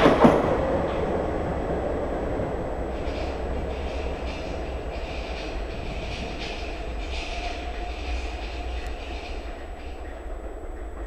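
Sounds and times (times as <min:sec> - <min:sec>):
faint train whine: 0:00.0 - 0:11.0
metro train rumbling: 0:00.0 - 0:11.0.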